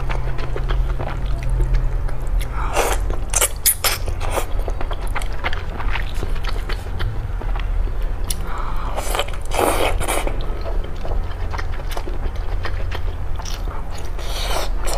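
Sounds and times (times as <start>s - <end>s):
low hum: 0.0s - 14.2s
chewing: 0.0s - 14.9s.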